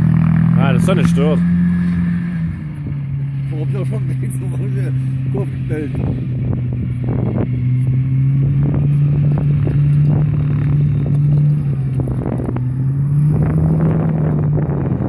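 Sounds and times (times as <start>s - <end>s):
snow vehicle engine running: 0.0s - 15.0s.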